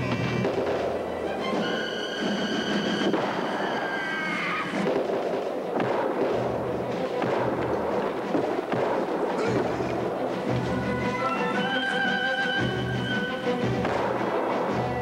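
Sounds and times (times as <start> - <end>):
musket shots crackling: 0.0 - 10.9, 13.6 - 15.0
noisy battle din: 0.0 - 15.0.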